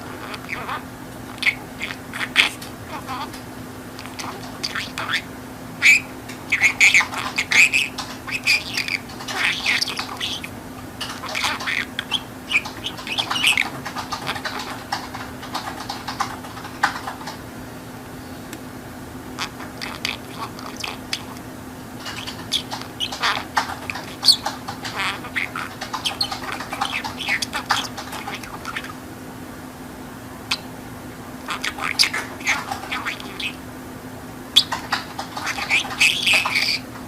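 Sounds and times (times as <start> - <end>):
budgerigar chattering and warbling: 0.0 - 17.4, 19.4 - 29.0, 30.5 - 30.7, 31.4 - 33.6, 34.6 - 37.0
faint low hum: 0.0 - 37.0.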